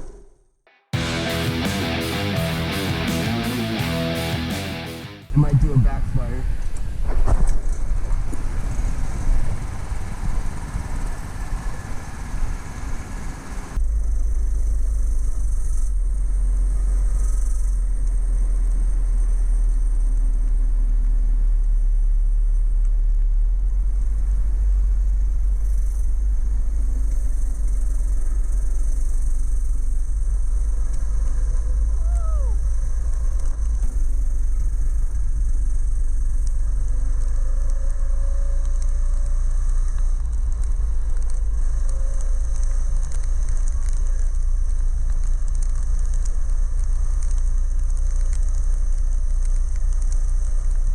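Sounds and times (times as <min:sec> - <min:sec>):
wind rumble on microphone: 0:05.3 - 0:50.9
go kart engine running: 0:07.7 - 0:14.0, 0:14.6 - 0:50.9.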